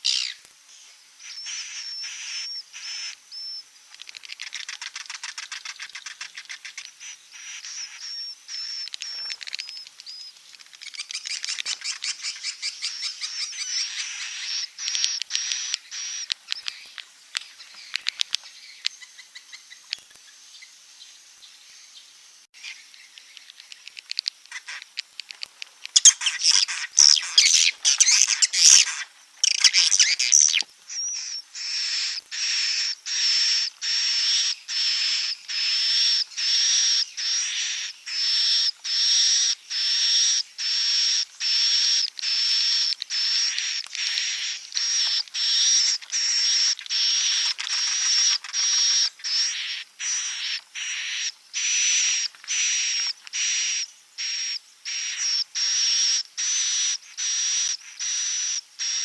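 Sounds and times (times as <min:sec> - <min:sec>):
buzzy swiftlet calls: 0:00.0 - 0:00.4, 0:01.2 - 0:20.8, 0:22.6 - 0:59.0
swiftlet twittering chirps: 0:01.1 - 0:25.1, 0:25.9 - 0:59.0.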